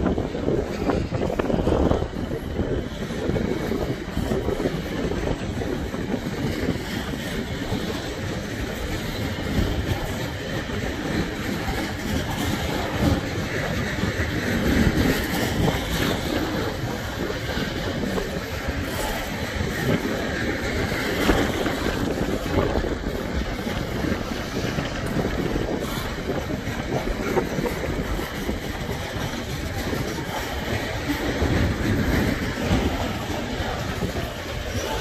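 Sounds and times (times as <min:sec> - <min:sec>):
freight train wheels rumbling: 0:00.0 - 0:35.0
wheels clacking over rail joints: 0:00.0 - 0:35.0.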